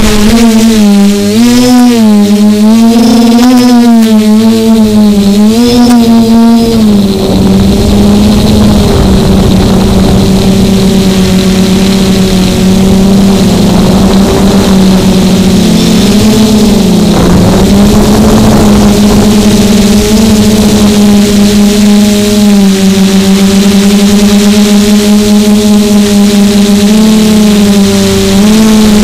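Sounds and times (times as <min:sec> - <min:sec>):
drone motors humming: 0:00.0 - 0:29.0.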